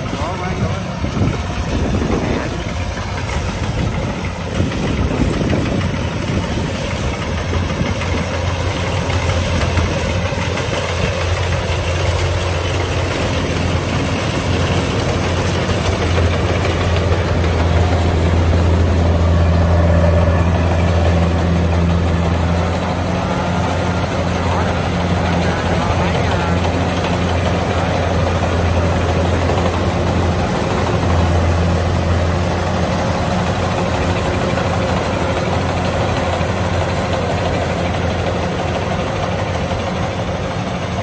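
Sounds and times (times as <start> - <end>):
combine harvester engine hum: 0.0 - 41.0.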